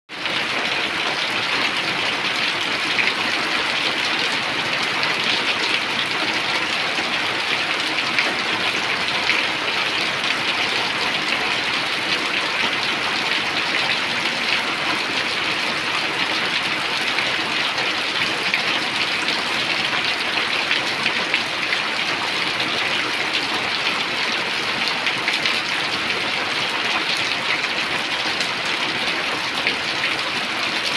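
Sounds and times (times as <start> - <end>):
steady rain falling: 0.1 - 30.9.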